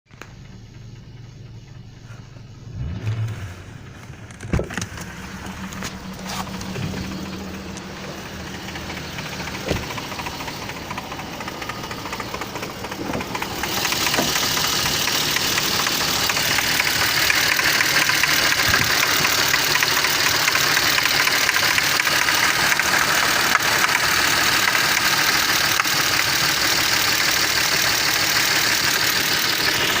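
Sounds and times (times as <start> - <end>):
car engine running: 0.1 - 30.0.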